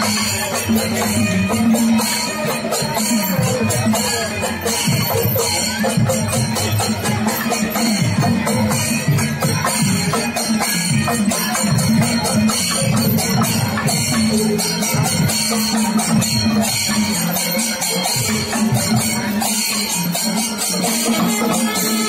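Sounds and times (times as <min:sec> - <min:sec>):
music with jingling percussion: 0:00.0 - 0:22.0.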